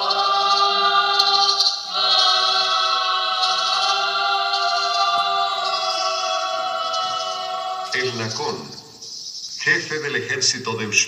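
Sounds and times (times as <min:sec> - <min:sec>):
choir singing held chords: 0:00.0 - 0:09.4.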